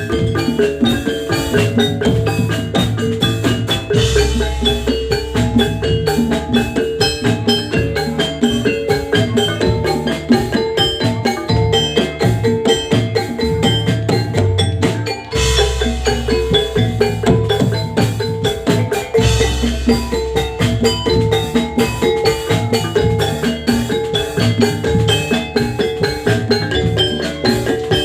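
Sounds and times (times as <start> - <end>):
gamelan music: 0.0 - 28.0.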